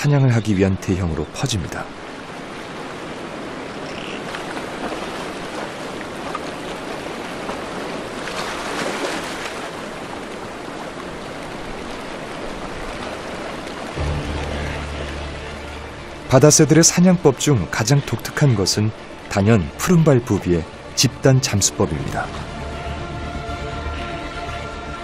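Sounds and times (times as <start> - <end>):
waves washing: 0.8 - 25.0.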